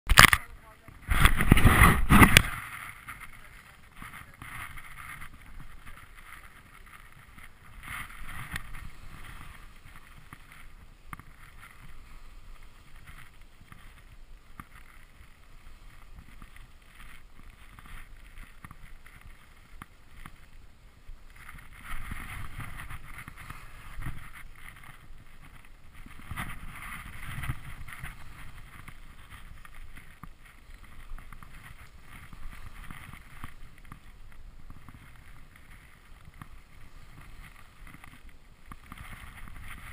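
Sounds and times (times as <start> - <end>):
wind on microphone: 0.1 - 39.9
skis scraping over snow: 0.3 - 39.9.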